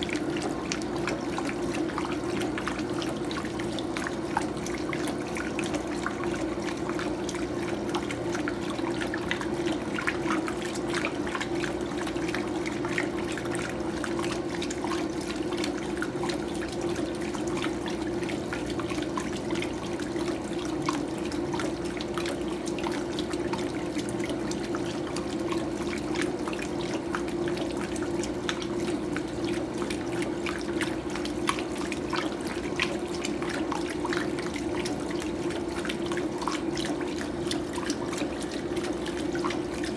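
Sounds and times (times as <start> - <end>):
washing machine hum: 0.0 - 39.9
water splashing in washing machine: 0.0 - 39.9.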